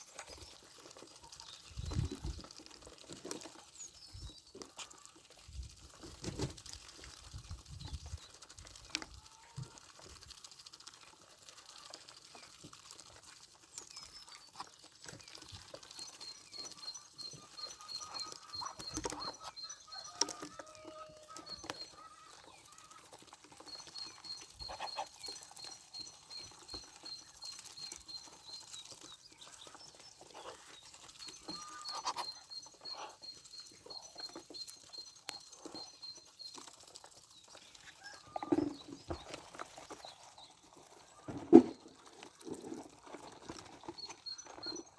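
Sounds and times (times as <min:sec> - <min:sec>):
chicks peeping: 0:00.0 - 0:44.9
poultry pecking and scuffing: 0:00.0 - 0:44.9.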